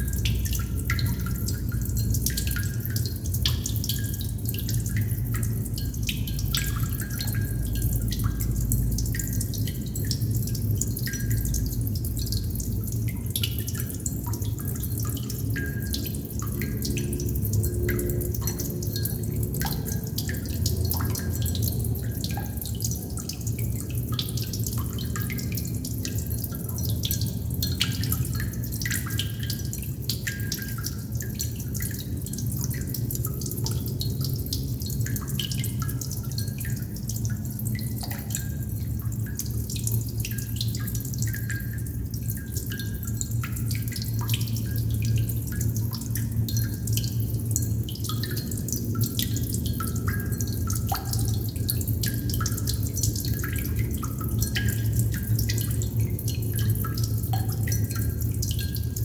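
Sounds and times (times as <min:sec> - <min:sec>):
water droplets dripping: 0:00.0 - 0:59.0.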